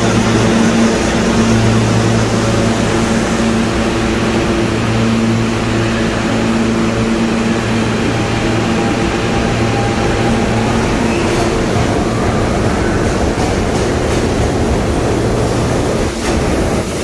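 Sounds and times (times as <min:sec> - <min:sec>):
subway train electrical hum: 0:00.0 - 0:17.0.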